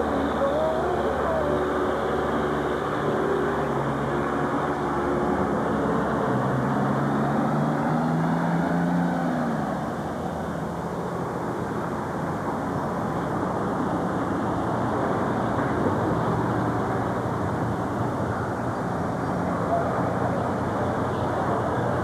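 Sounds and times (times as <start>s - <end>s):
vehicle engine hum: 0.0s - 22.0s.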